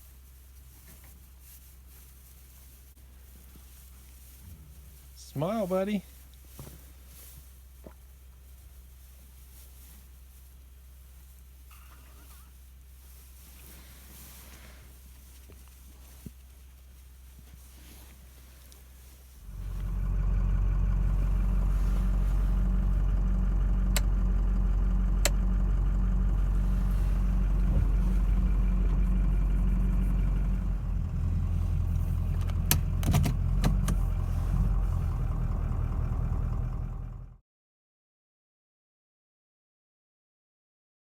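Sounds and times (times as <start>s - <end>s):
engine running: 1.8s - 37.4s.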